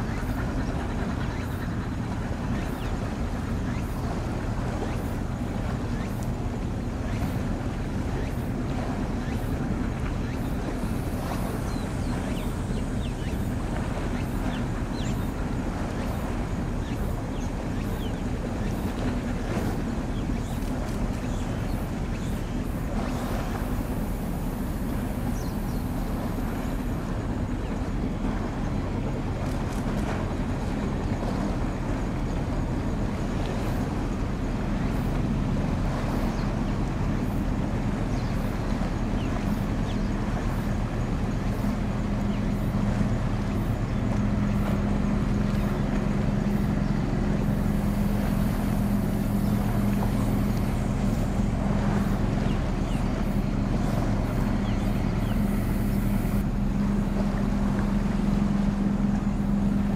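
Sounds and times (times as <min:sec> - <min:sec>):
hiss of wind and water: 0:00.0 - 0:59.9
ship diesel engines droning: 0:00.0 - 0:59.9.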